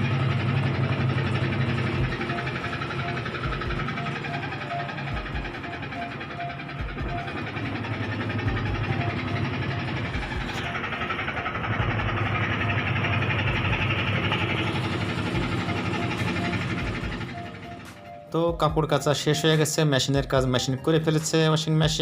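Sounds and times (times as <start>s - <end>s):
washing machine drum spinning: 0.0s - 22.0s.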